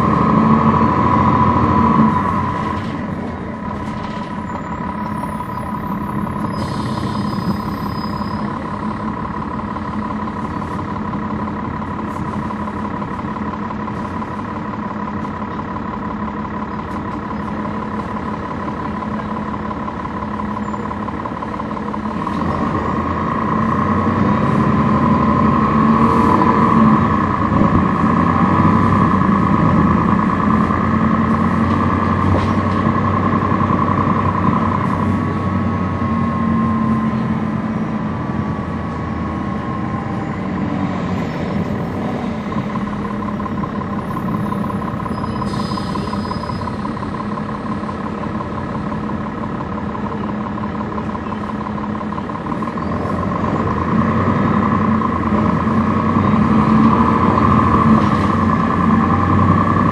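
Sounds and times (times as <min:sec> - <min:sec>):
bus diesel engine roar: 0:00.0 - 0:59.9.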